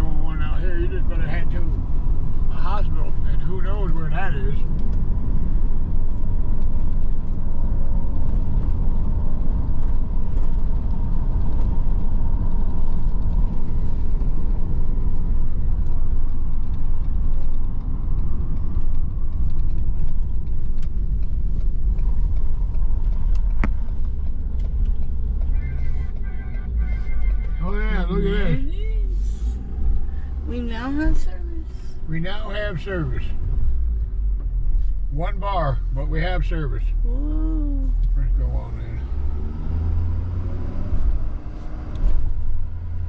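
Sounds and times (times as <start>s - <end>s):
road and engine rumble: 0.0s - 43.0s.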